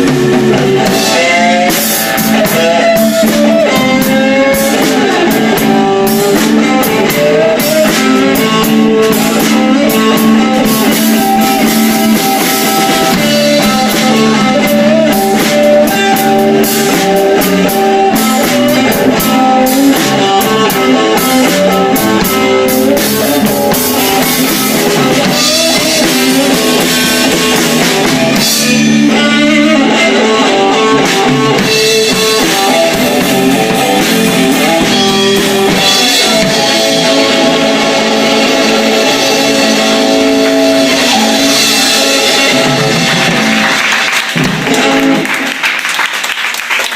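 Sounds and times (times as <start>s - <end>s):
electric guitar lines: 0.0s - 46.0s
live blues band: 0.0s - 46.9s.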